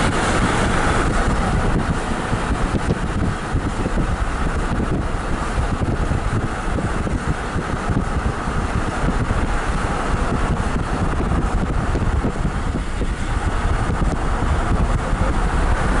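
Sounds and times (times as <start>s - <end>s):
car engine and tyre rumble: 0.0s - 16.0s
wind noise: 0.0s - 16.0s.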